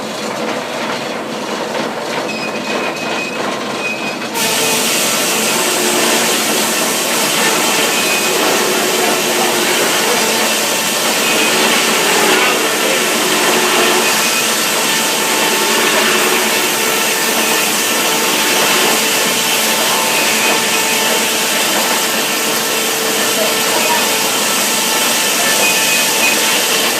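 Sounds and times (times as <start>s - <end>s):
sawmill saw running: 0.0s - 26.9s.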